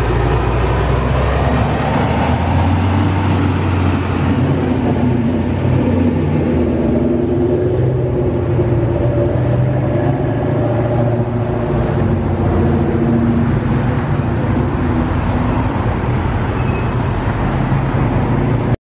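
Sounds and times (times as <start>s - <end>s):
cars driving past: 0.0s - 18.8s.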